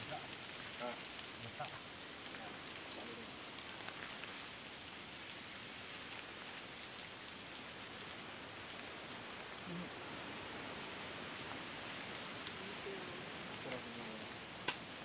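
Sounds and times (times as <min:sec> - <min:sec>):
rain falling on foliage: 0:00.0 - 0:15.0.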